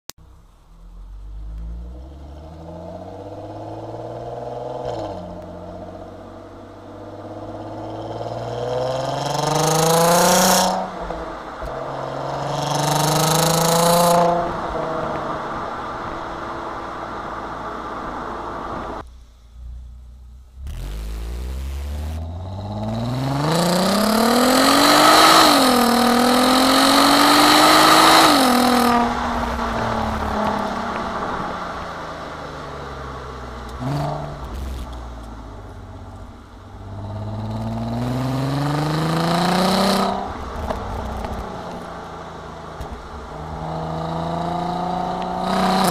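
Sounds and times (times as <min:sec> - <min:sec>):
car engine accelerating hard: 0:00.8 - 0:19.0, 0:19.6 - 0:45.9.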